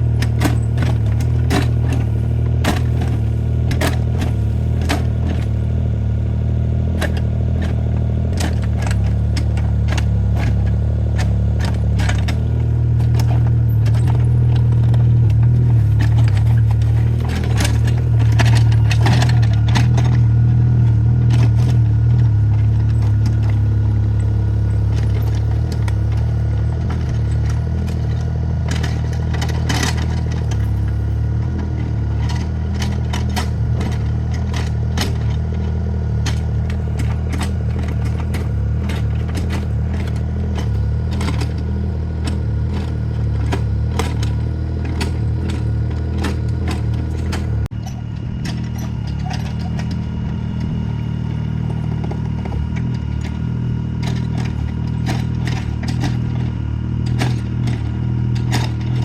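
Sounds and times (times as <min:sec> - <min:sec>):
excavator bucket clanking: 0:00.0 - 0:59.0
excavator diesel engine running: 0:00.0 - 0:59.0.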